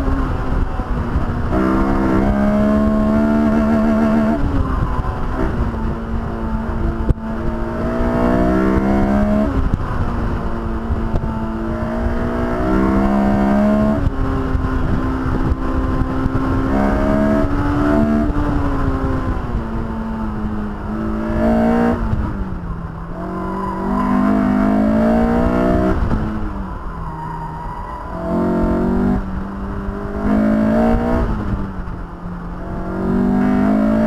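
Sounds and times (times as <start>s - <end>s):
car engine revving: 0.0s - 34.0s
wind rush: 0.0s - 34.0s.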